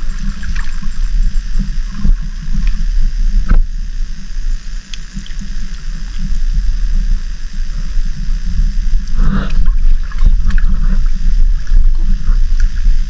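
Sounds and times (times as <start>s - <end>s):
sea water sloshing: 0.0s - 13.0s.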